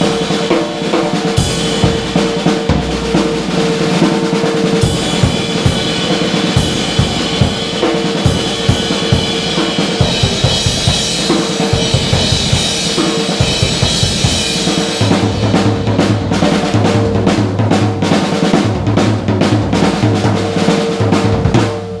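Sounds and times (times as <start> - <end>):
drum kit groove: 0.0 - 22.0.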